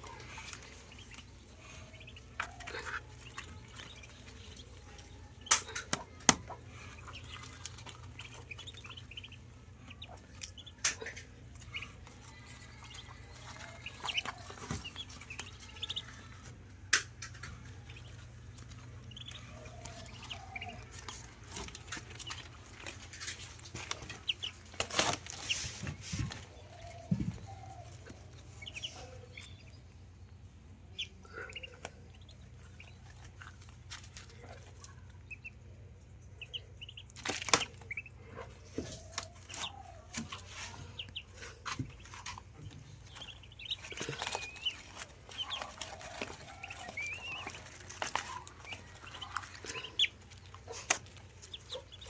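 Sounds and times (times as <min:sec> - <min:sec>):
ducklings peeping: 0:00.0 - 0:52.0.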